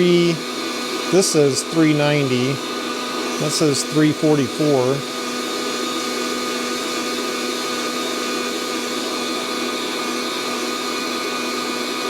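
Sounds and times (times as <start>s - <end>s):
coffee roaster fan blowing: 0.0s - 12.0s.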